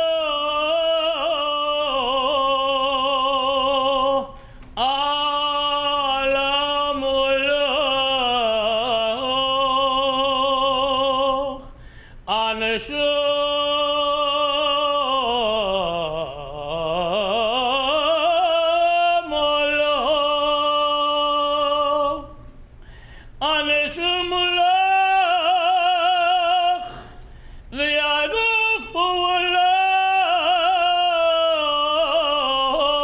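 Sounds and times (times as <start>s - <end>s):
tenor voice singing: 0.0s - 22.5s, 23.4s - 33.0s.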